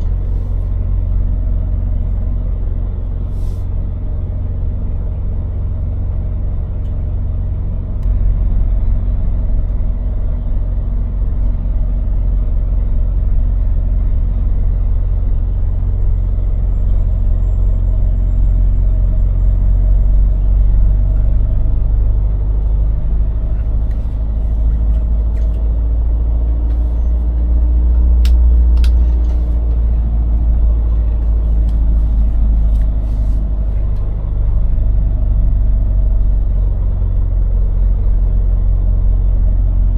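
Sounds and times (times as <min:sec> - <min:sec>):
lorry diesel engine running: 0:00.0 - 0:39.9.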